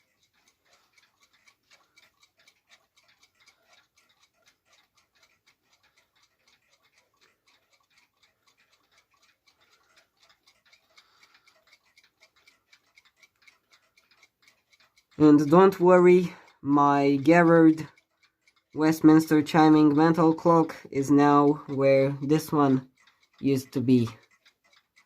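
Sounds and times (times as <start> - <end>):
mechanical clocks ticking: 0.0 - 25.0.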